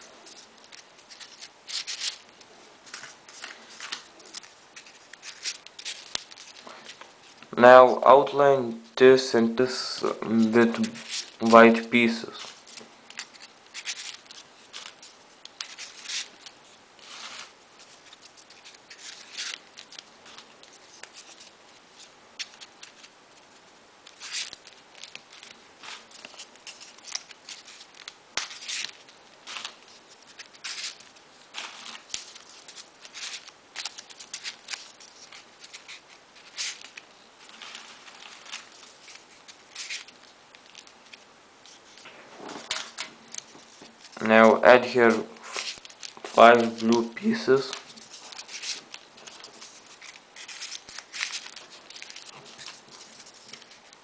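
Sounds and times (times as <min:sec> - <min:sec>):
paper rustling and scraping: 0:00.0 - 0:07.4, 0:10.3 - 0:23.1, 0:24.0 - 0:54.0.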